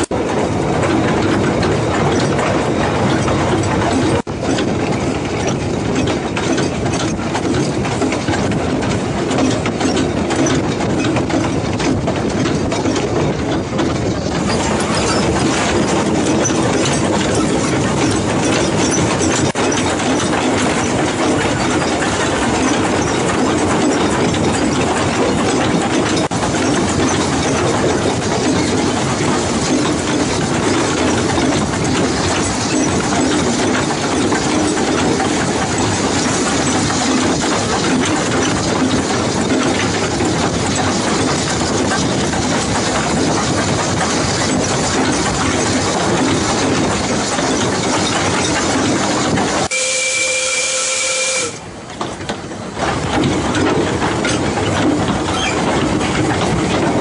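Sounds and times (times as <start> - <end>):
train wheels rushing on track: 0.0 - 57.0.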